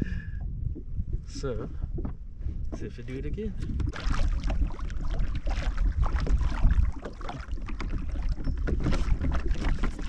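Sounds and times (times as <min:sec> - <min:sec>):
water lapping against kayak hull: 0:00.0 - 0:10.0
wind rumbling on microphone: 0:00.0 - 0:10.0.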